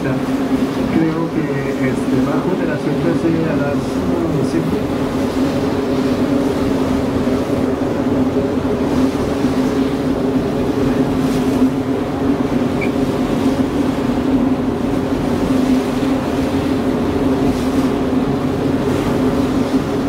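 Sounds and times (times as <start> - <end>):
boat engine droning: 0.0 - 20.0
choppy water: 0.0 - 20.0
wind: 0.0 - 20.0.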